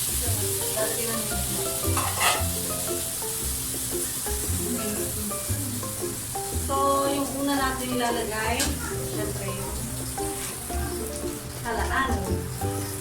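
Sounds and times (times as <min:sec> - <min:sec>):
music with held notes and bass: 0:00.0 - 0:13.0
steady sizzling hiss: 0:00.0 - 0:13.0.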